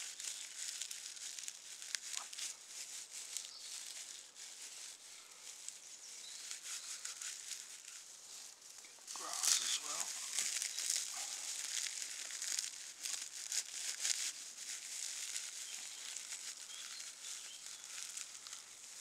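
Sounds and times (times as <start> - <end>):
dry grass crackling rustle: 0.0 - 19.0.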